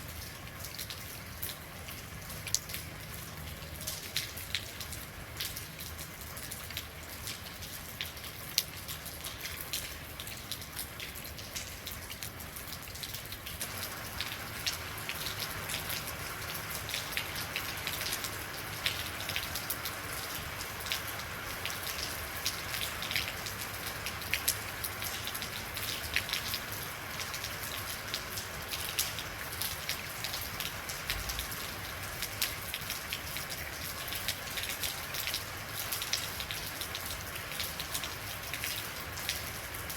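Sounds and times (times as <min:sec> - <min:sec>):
rain drops spattering on a surface: 0:00.0 - 0:39.9.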